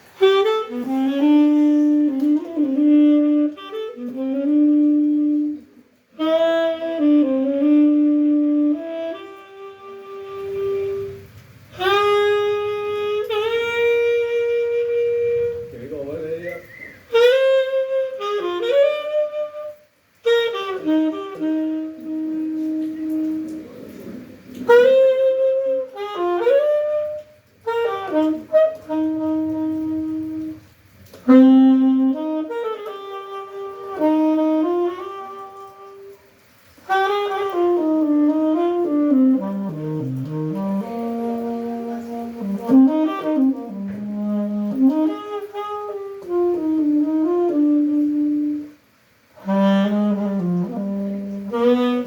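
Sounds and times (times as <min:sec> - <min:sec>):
saxophone playing slow melody: 0:00.0 - 0:52.0.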